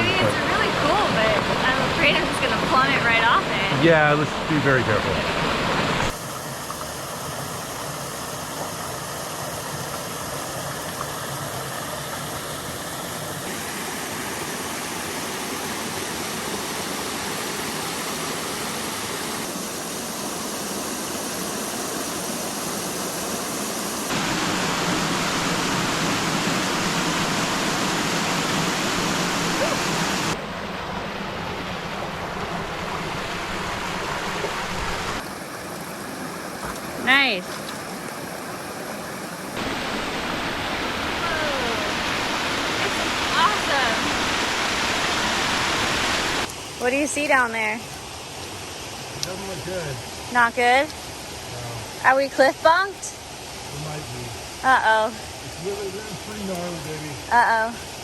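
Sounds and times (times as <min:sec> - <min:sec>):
stream and small waterfalls rushing: 0:00.0 - 0:58.0.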